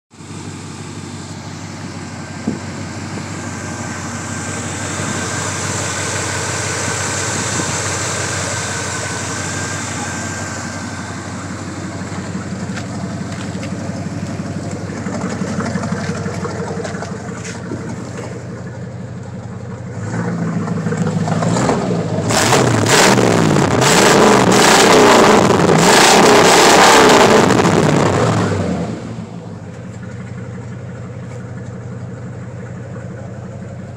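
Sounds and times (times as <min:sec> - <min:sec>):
truck engine idling and revving: 0:00.1 - 0:33.9.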